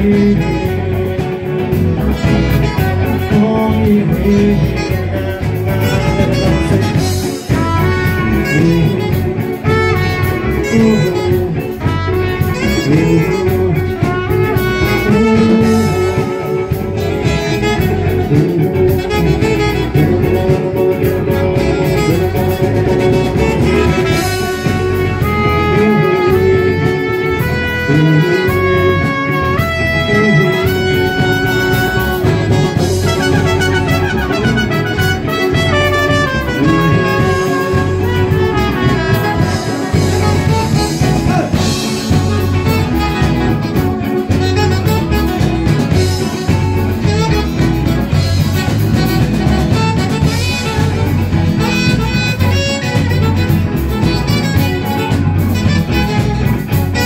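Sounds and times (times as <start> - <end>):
cymbals: 0.0 - 57.0
live band playing: 0.0 - 57.0
trumpet melody: 0.0 - 57.0.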